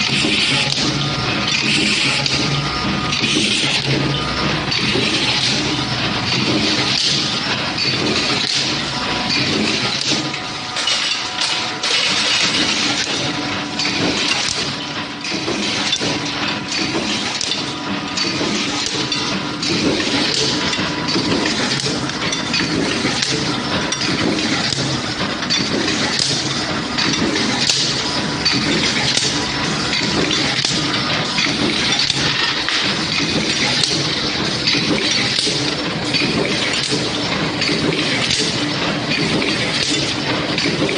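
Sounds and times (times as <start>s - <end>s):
forging press metal clatter: 0.0s - 40.9s
machine hum: 0.0s - 40.9s.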